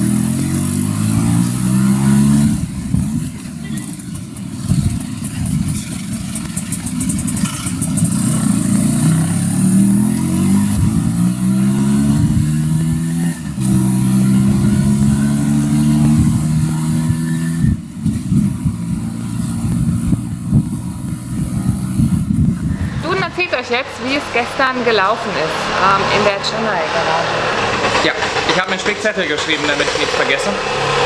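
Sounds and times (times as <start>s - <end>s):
auto-rickshaw engine: 0.0s - 31.0s.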